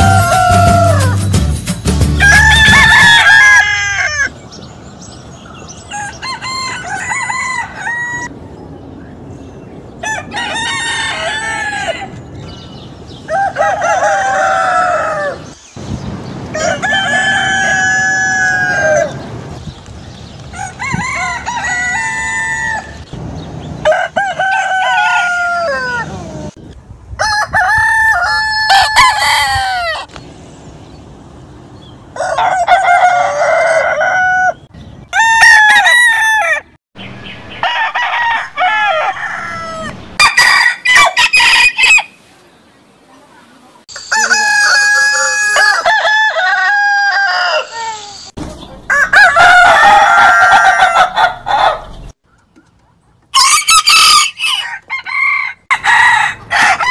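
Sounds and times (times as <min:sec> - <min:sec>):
roosters crowing: 0:00.0 - 0:01.4, 0:02.0 - 0:04.3, 0:05.4 - 0:08.3, 0:09.9 - 0:15.6, 0:16.2 - 0:19.6, 0:20.4 - 0:26.6, 0:27.2 - 0:30.2, 0:31.7 - 0:42.3, 0:43.9 - 0:52.2, 0:53.3 - 0:56.9.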